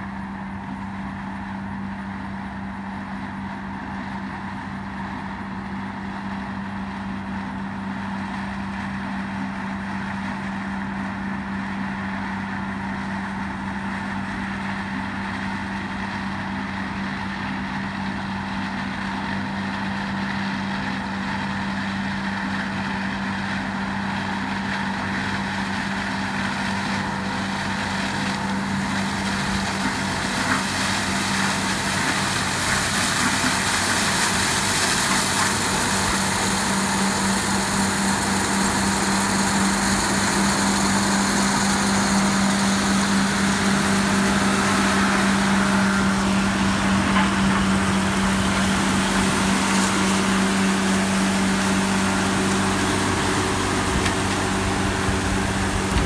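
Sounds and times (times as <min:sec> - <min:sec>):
harvester humming: 0:07.8 - 0:56.0.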